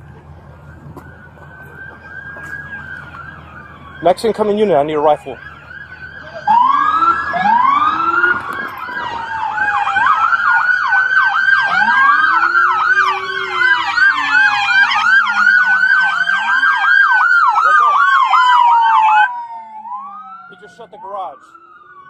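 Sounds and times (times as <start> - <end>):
emergency sirens wailing and yelping: 0.0 - 22.0.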